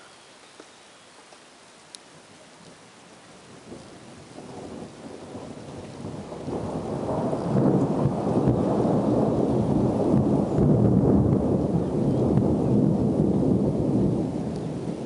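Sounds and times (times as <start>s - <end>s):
light rain hiss: 0.0s - 15.0s
thunder rumbling: 2.1s - 15.0s.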